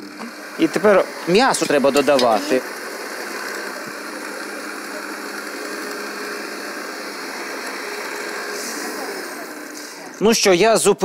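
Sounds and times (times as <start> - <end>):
stand mixer motor whirring: 0.0 - 10.8.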